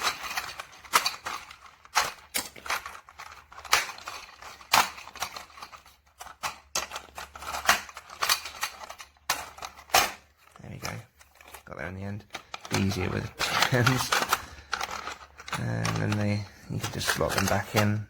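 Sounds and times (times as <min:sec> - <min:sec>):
plastic toy pieces clicking: 0:00.0 - 0:18.0.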